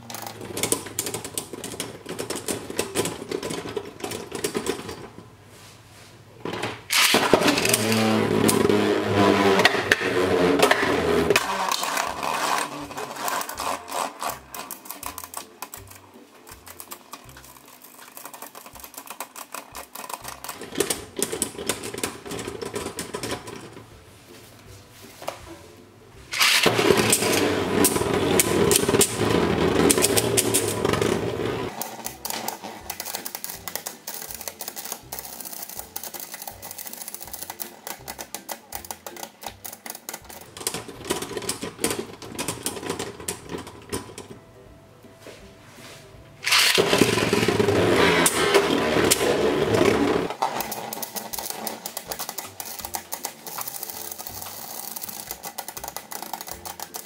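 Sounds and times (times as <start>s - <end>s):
spinning tops rattling together: 0.0s - 5.2s, 6.6s - 23.9s, 26.3s - 44.4s, 46.4s - 57.0s.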